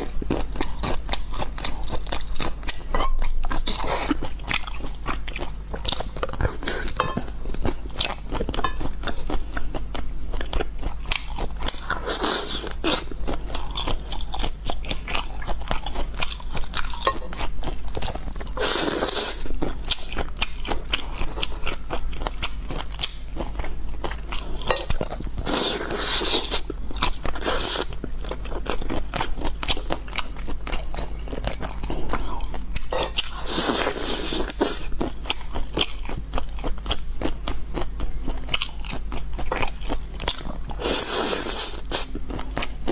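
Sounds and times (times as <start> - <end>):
chewing crunchy food: 0.0 - 42.9.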